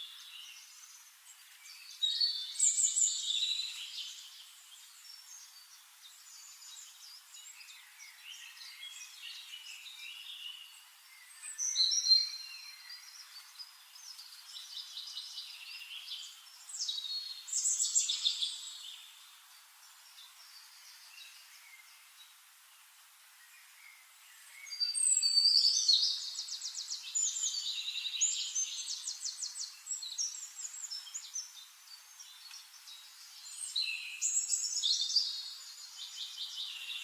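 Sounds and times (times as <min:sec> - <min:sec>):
songbirds singing and chirping: 0:00.0 - 0:37.0.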